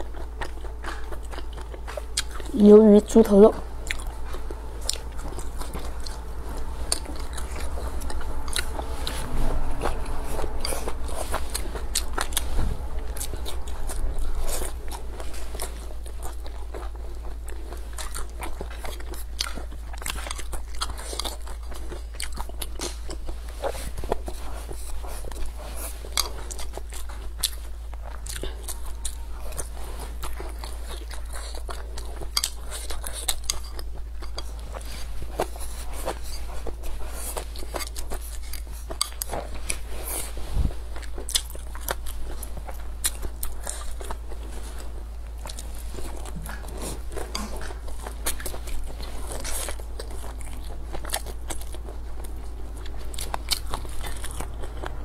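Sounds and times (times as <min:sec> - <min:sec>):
chewing with mouth clicks: 0:00.0 - 0:55.0
steady low hum: 0:00.0 - 0:55.0.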